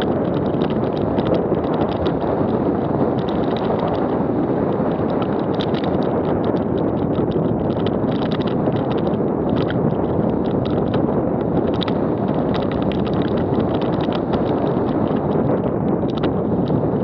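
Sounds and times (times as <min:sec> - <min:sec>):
bike clattering and rattling: 0:00.0 - 0:17.0
wind rushing over microphone: 0:00.0 - 0:17.0.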